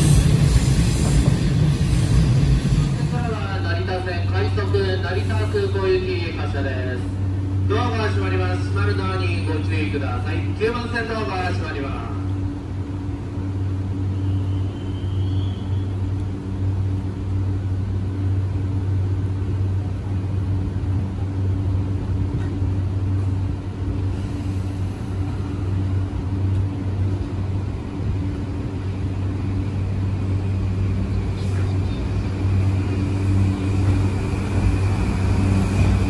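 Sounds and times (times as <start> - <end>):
train pulling away: 0.0 - 10.6, 11.5 - 36.0
electric train humming: 0.0 - 36.0.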